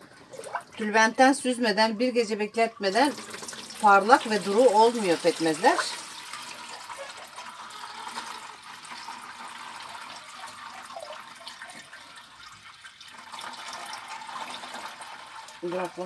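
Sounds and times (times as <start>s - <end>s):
liquid splashing into a pot: 3.1s - 16.0s.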